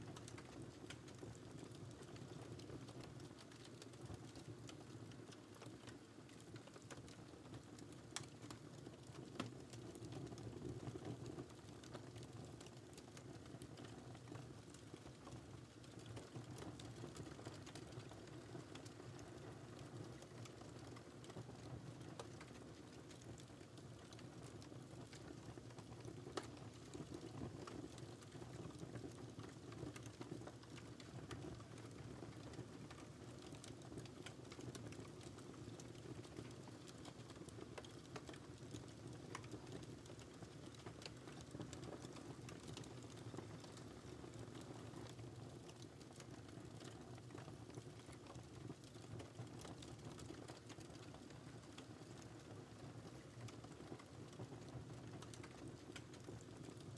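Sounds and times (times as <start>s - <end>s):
wood fire crackling: 0.1s - 56.9s.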